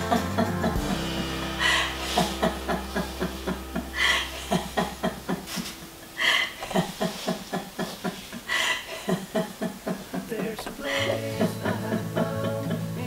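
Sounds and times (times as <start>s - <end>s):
rhythmic laughing: 0.0s - 13.0s.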